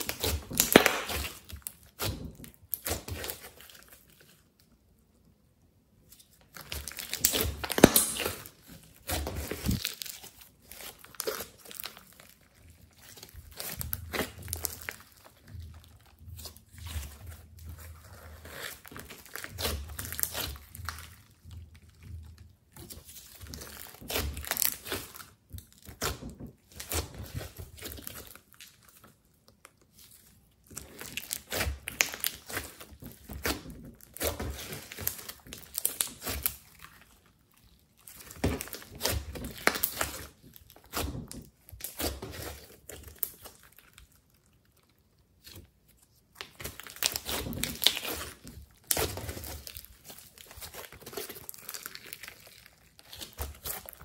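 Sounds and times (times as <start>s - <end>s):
slime crackling and popping: 0.0s - 4.5s, 6.2s - 54.0s.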